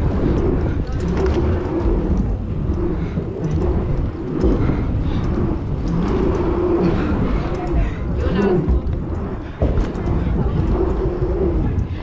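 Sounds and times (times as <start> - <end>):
bike tyres rumbling over dirt: 0.0 - 12.0.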